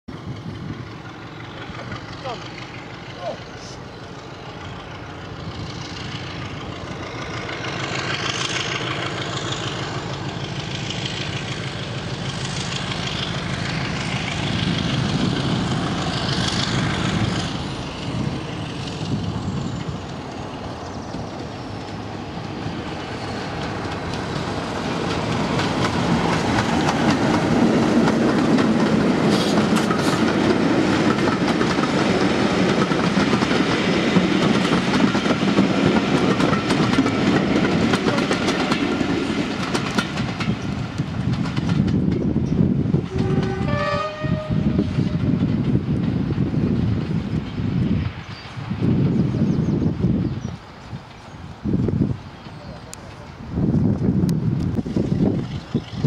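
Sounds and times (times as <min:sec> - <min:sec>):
train wheels clattering over rail joints: 0:00.1 - 0:49.6
diesel locomotive engine running: 0:00.1 - 0:56.0.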